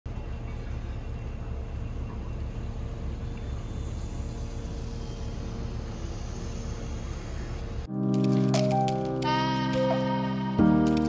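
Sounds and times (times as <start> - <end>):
low harbour rumble: 0.1 - 11.0.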